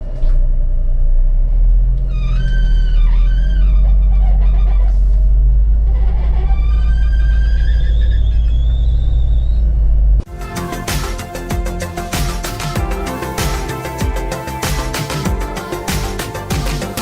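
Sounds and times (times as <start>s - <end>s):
bus engine rumble: 0.0s - 17.0s
whining tone: 0.7s - 17.0s.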